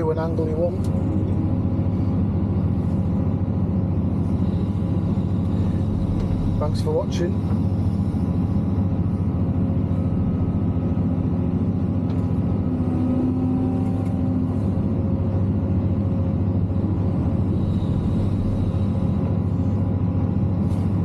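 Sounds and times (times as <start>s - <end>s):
excavator diesel engine drone: 0.0s - 21.0s.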